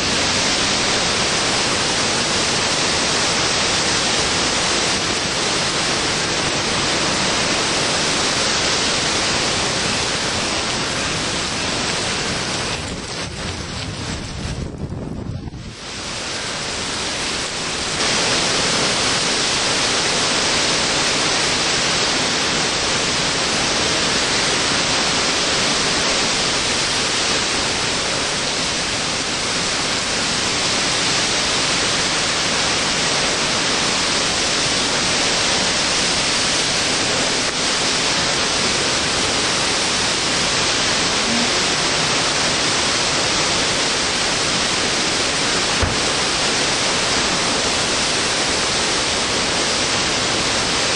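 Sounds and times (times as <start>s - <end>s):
driving rain: 0.0s - 50.9s
hurricane wind: 0.0s - 50.9s.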